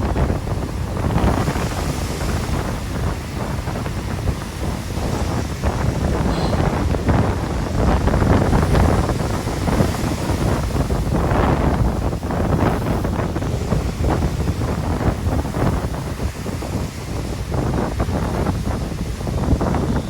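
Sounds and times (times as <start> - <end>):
gusty wind buffeting microphone: 0.0 - 20.0
stormy sea surf: 0.0 - 20.0.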